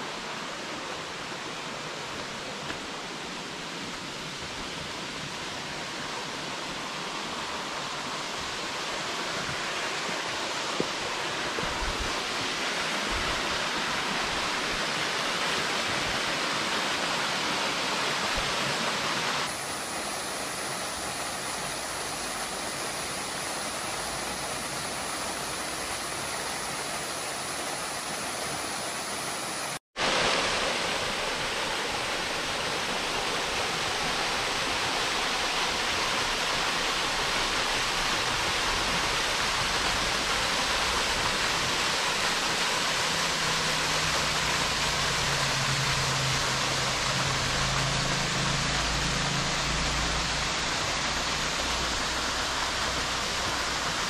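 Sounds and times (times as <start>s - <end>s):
waterfall pouring into pool: 8.5s - 54.0s.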